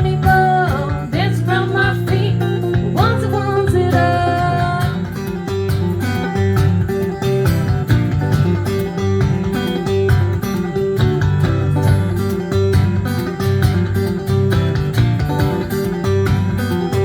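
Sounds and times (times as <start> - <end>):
guitar: 0.0 - 17.0
steady bass line: 0.0 - 17.0.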